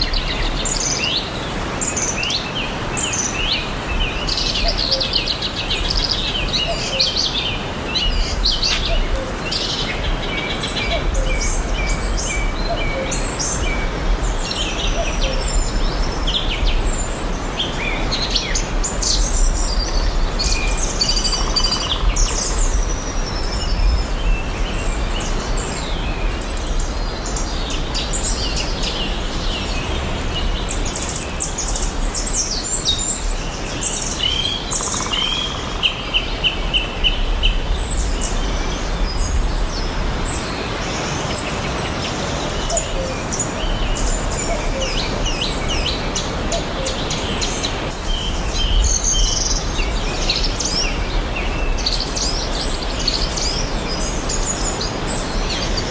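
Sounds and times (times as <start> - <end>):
small birds chirping and trilling: 0.0 - 55.9.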